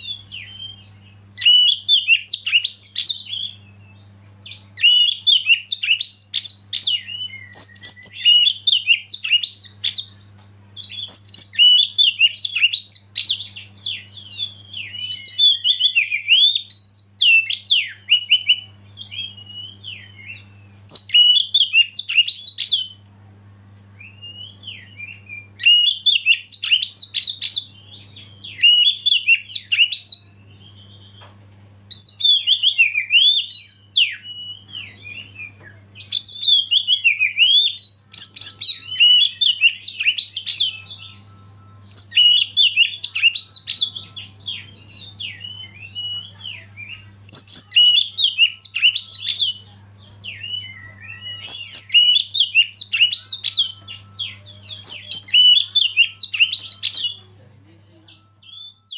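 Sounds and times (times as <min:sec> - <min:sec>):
bird singing whistles and trills: 0:00.0 - 0:23.0, 0:23.9 - 0:58.9
faint low hum: 0:00.0 - 0:58.9.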